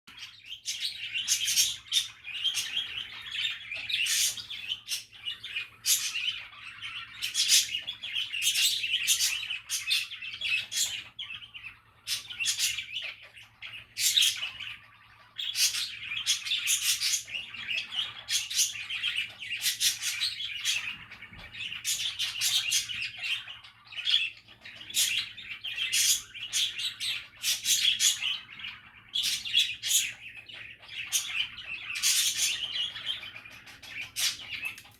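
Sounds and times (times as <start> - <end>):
budgies chattering and warbling: 0.1 - 34.9.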